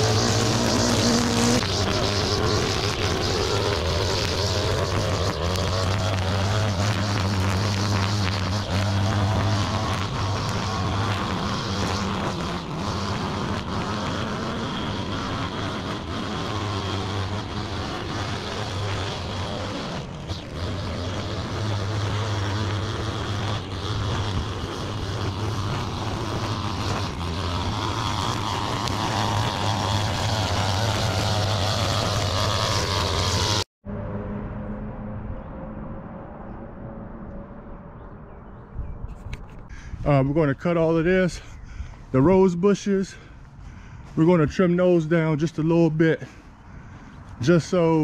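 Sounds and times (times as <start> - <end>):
string trimmer running: 0.0 - 33.7, 40.6 - 48.0.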